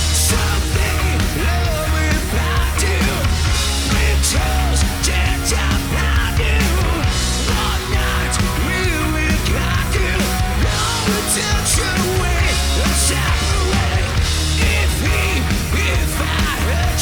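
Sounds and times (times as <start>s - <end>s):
drums with cymbal crashes: 0.0s - 17.0s
heavy bass line: 0.0s - 17.0s.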